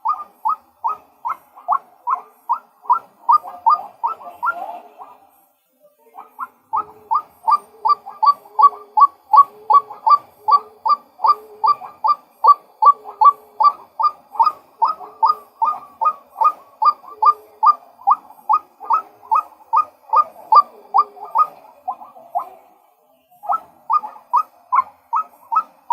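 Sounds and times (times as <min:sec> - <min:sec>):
waterhen calling: 0:00.0 - 0:05.2, 0:06.1 - 0:25.9.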